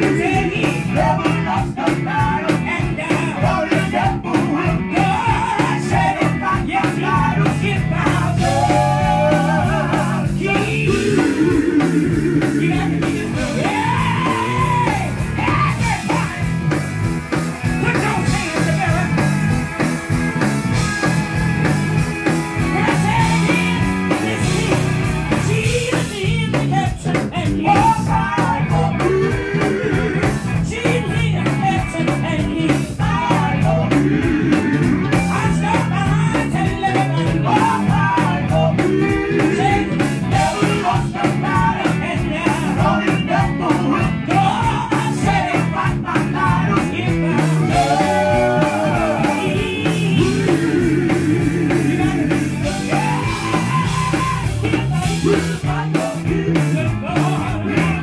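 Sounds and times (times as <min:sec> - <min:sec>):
gospel singers on microphones: 0:00.0 - 0:16.4, 0:22.6 - 0:58.0
band playing a steady beat: 0:00.0 - 0:58.0.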